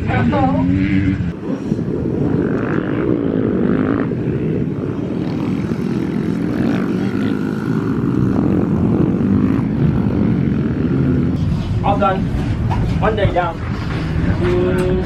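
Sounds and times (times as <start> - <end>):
motor engines running: 0.0 - 15.0.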